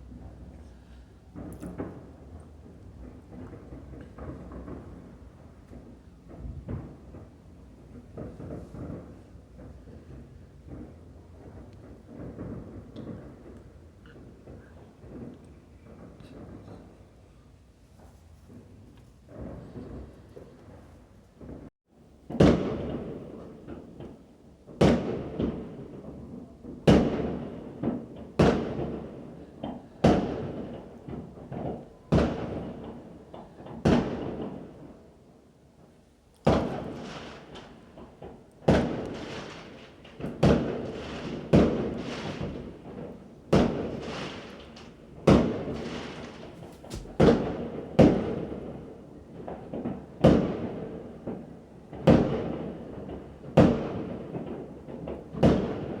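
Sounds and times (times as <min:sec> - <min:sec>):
small firework pops: 0:00.1 - 0:17.2, 0:22.3 - 0:35.0, 0:35.8 - 0:56.0
fireworks bangs with echo: 0:01.2 - 0:17.1, 0:21.4 - 0:35.2, 0:36.4 - 0:56.0.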